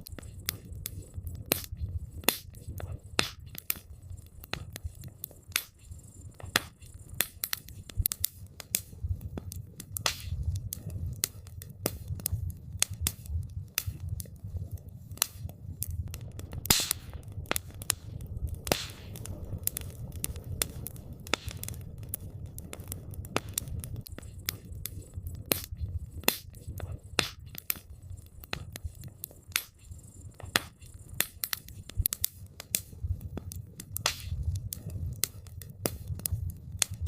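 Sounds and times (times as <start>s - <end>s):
low rumble of flames: 0.0s - 37.0s
wood crackling and popping: 0.0s - 37.0s.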